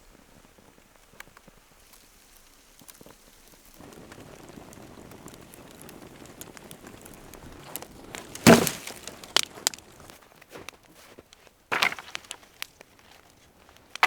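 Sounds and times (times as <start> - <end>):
steady rustling hiss: 0.0 - 14.0.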